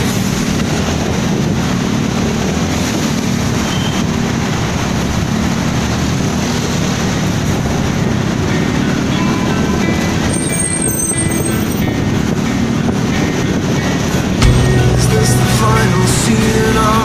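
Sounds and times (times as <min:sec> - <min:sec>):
rushing vehicle noise: 0:00.0 - 0:17.0
wind buffeting microphone: 0:00.0 - 0:17.0.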